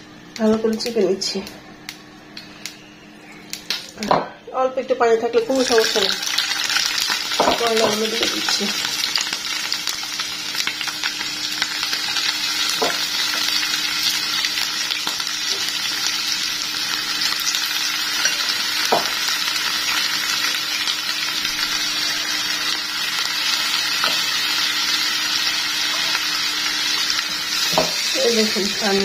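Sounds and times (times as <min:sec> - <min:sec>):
food sizzling in hot oil: 0:05.3 - 0:29.0.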